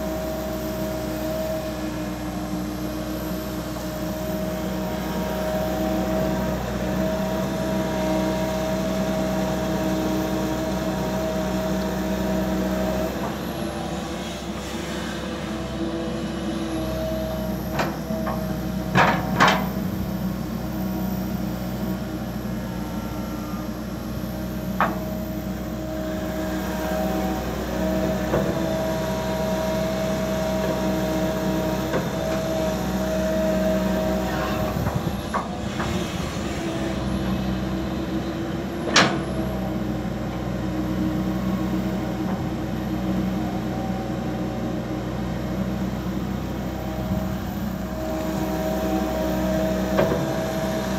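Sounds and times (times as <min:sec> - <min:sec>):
diesel engine under load: 0:00.0 - 0:50.9
hydraulic whine: 0:00.0 - 0:50.9.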